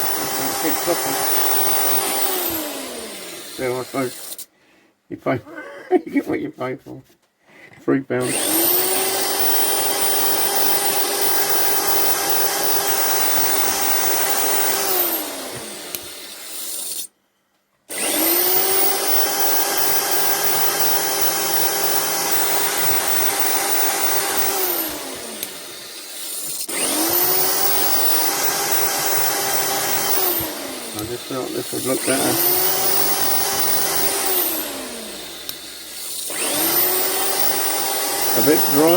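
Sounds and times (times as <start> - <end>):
electric drill with wire brush spinning: 0.0 - 4.5, 8.2 - 17.1, 17.9 - 38.9.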